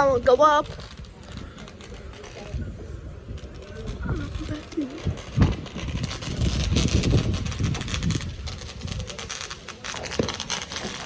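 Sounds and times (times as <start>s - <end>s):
fireworks crackling and popping: 0.0s - 11.0s
wind buffeting microphone: 0.0s - 11.0s.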